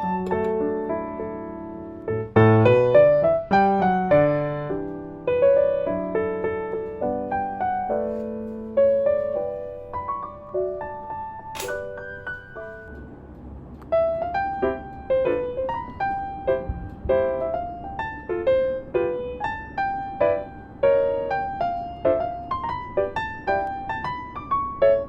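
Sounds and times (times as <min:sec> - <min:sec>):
soft piano melody: 0:00.0 - 0:25.0.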